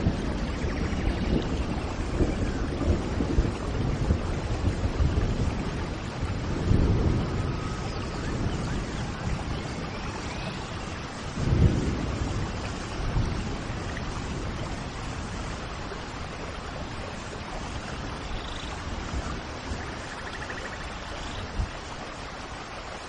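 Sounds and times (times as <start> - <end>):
low thunder rumbles: 0.0 - 22.1
steady rain falling: 0.0 - 23.0.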